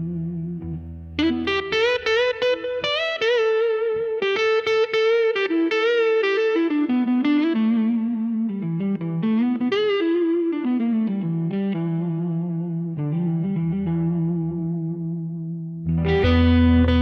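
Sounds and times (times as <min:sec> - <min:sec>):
distorted electric guitar solo: 0:00.0 - 0:17.0.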